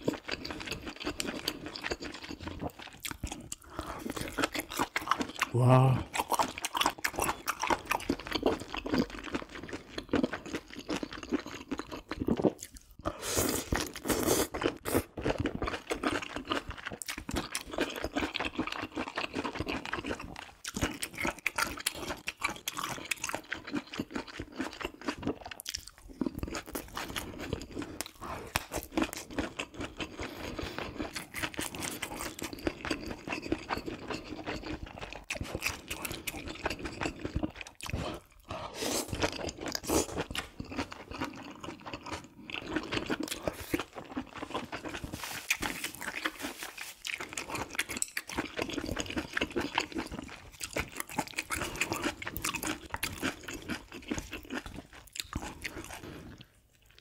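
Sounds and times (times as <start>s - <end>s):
close chewing with clicks and smacks: 0.0s - 57.0s.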